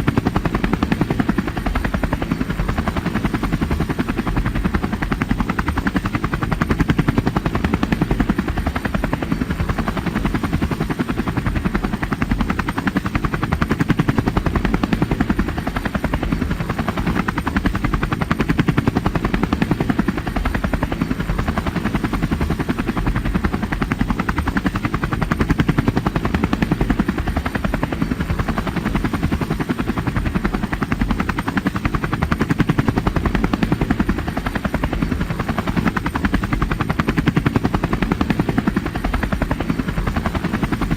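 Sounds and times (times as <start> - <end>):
helicopter engine drone: 0.0 - 40.9
helicopter rotor blades chopping: 0.0 - 40.9.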